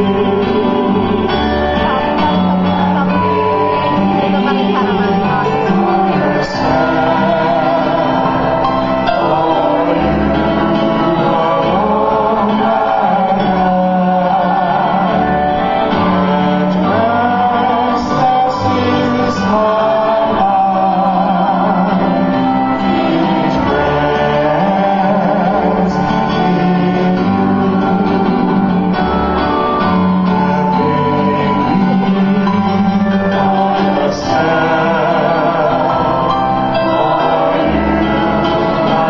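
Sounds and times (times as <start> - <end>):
man and woman singing: 0.0 - 28.8, 29.7 - 39.0
instrumental accompaniment: 0.0 - 39.0.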